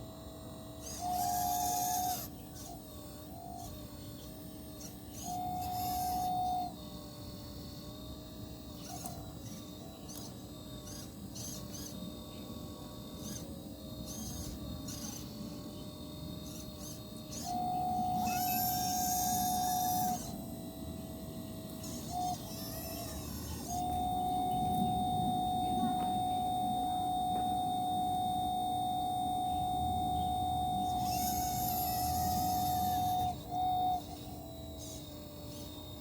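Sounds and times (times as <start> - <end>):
small electric motors whining: 0.0 - 36.0.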